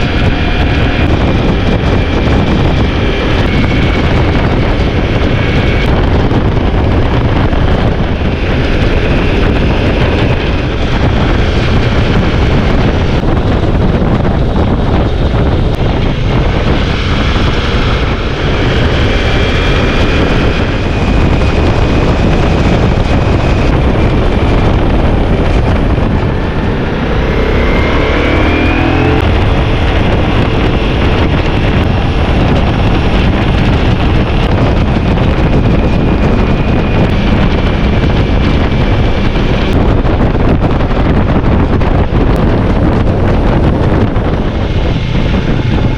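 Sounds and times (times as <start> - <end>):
motorcycle running at speed: 0.0 - 45.9
wind noise on microphone: 0.0 - 45.9.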